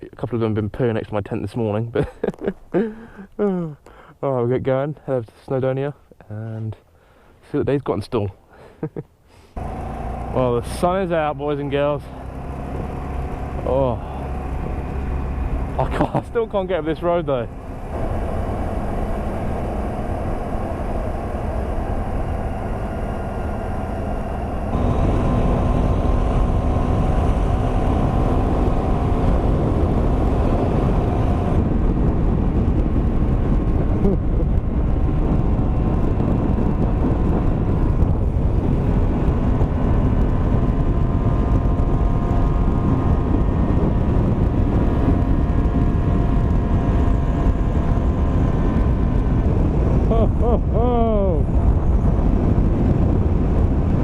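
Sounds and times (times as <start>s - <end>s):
wind and road noise: 0.0s - 54.0s
motorcycle engine running: 9.6s - 54.0s.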